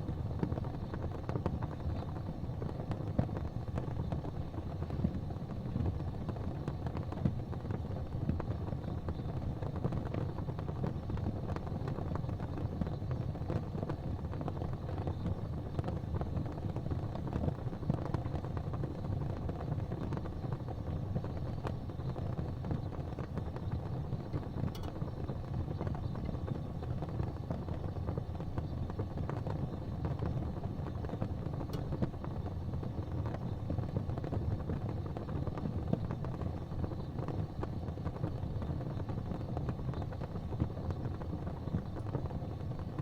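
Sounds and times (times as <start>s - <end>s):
fireplace fire crackling: 0.0s - 43.0s.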